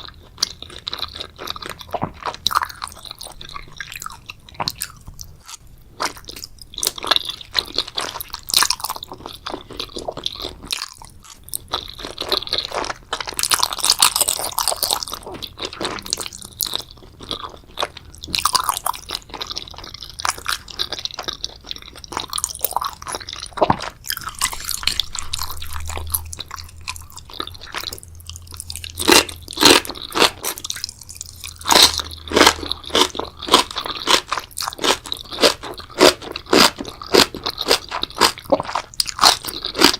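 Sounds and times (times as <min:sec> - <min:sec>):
person chewing and biting: 0:00.0 - 0:39.9.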